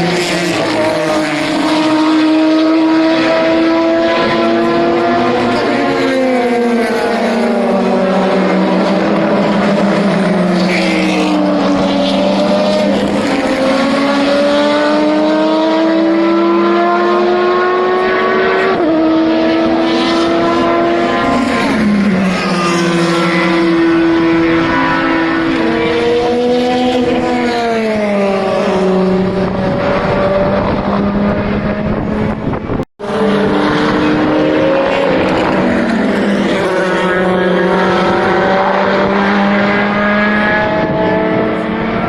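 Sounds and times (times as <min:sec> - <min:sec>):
race car engines passing: 0:00.0 - 0:42.0.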